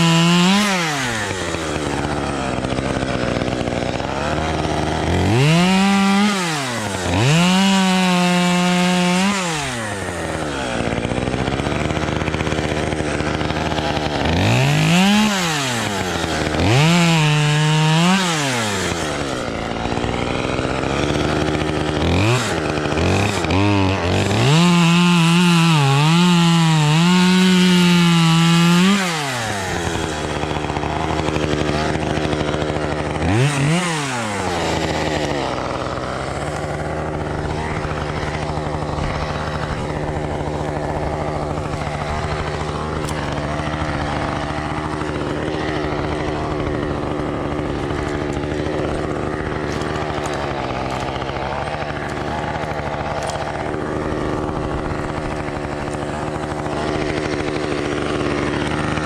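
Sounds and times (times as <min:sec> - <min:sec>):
chainsaw revving and cutting branches: 0:00.0 - 0:59.0.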